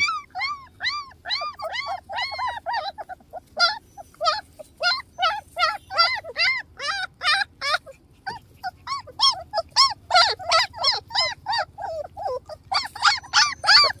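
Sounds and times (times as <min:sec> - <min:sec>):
puppies whimpering and yelping: 0:00.0 - 0:14.0.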